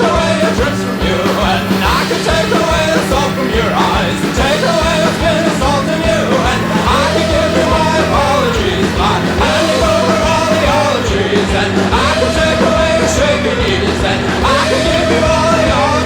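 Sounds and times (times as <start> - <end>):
rock song with vocals: 0.0 - 16.0.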